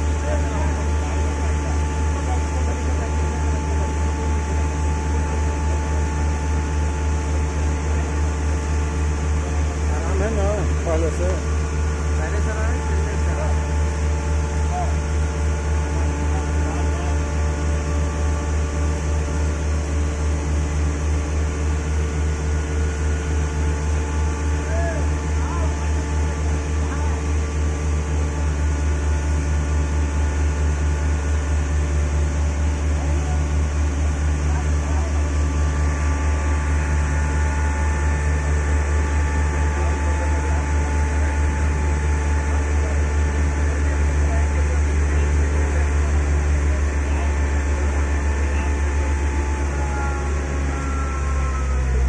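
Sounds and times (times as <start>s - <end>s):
heavy machinery engine running: 0.0s - 52.0s.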